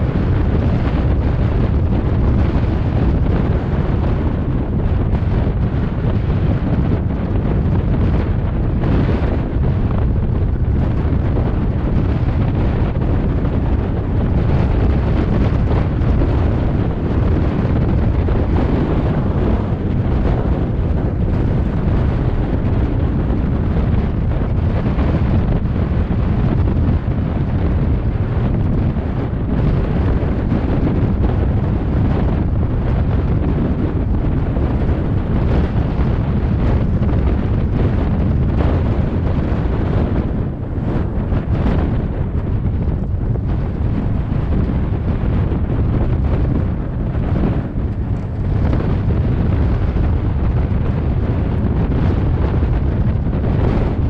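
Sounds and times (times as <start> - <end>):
heavy wind buffeting microphone: 0.0 - 54.0.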